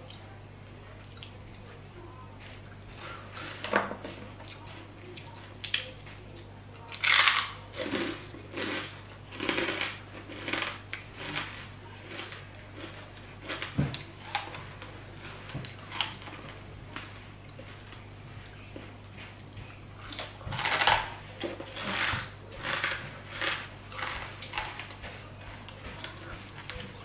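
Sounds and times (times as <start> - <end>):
faint steady hum: 0.0 - 27.0
crunchy chewing: 2.4 - 27.0.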